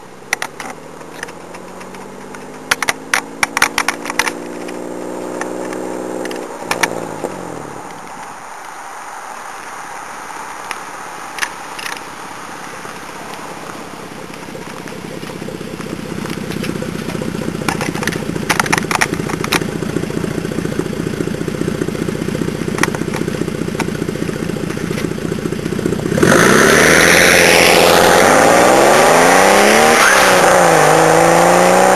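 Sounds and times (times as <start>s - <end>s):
exhaust crackles: 0.0s - 31.9s
car engine revving: 0.3s - 8.1s, 11.0s - 31.9s.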